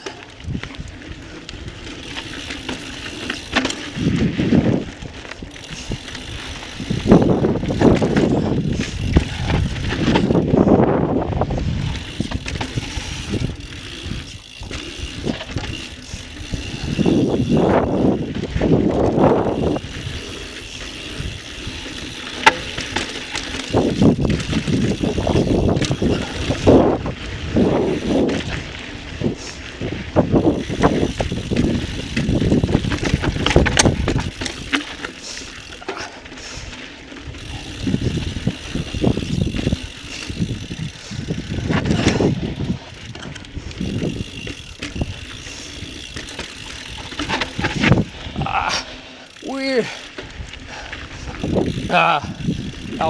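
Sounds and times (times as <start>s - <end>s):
bike clicks and rattles: 0.0s - 53.0s
bike tyres crunching over dirt: 0.0s - 53.0s.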